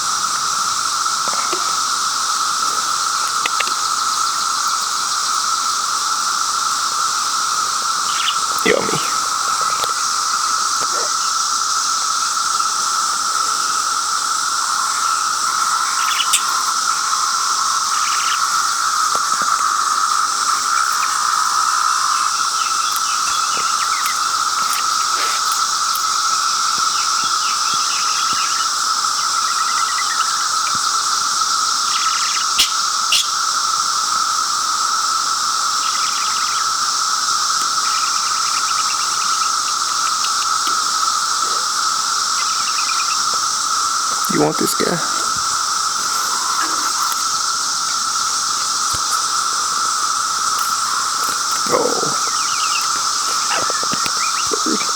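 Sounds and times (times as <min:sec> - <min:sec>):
cicada chorus droning: 0:00.0 - 0:54.9.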